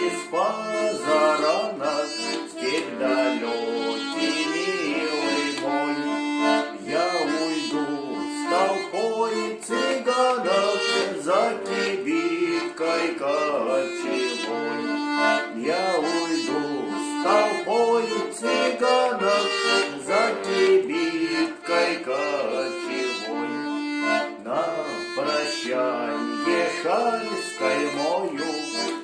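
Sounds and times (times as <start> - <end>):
accordion playing: 0.0 - 29.0.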